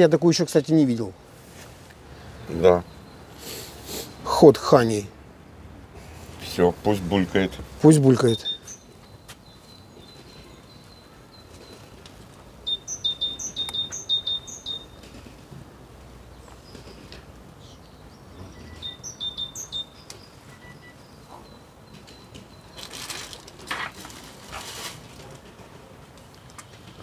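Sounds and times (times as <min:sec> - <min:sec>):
faint outdoor background noise: 0:00.0 - 0:27.0
songbird chirping: 0:00.6 - 0:05.7, 0:06.4 - 0:24.2.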